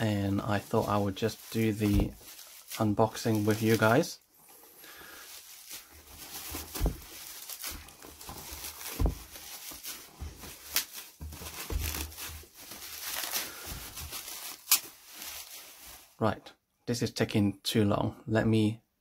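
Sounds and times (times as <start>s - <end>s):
bubble wrap crinkling: 0.0s - 16.3s.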